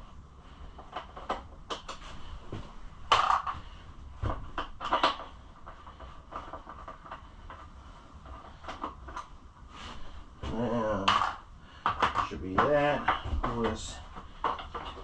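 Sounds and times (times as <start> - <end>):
plastic panels being handled: 0.7 - 9.4, 10.0 - 15.0.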